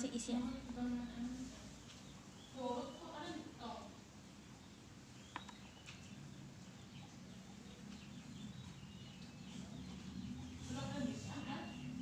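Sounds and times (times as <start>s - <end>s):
faint bird chirps: 1.6s - 12.0s.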